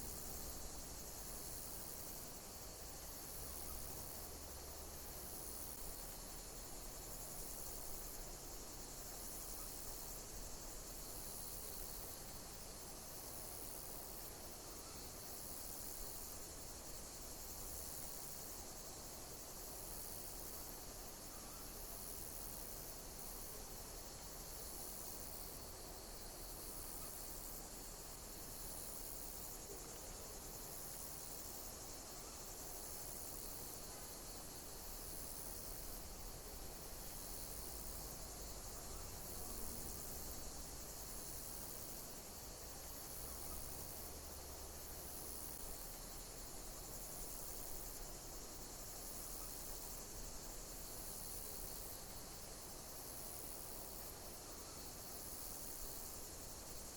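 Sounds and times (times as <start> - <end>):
insects chirping: 0.0 - 56.9
steady background hiss: 0.0 - 56.9.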